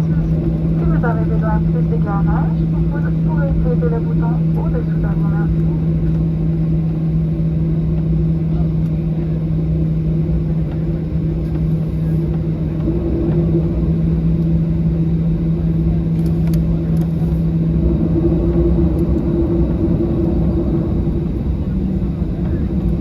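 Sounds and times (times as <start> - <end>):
heavy low rumble: 0.0 - 23.0
jet engines droning hum: 0.0 - 23.0.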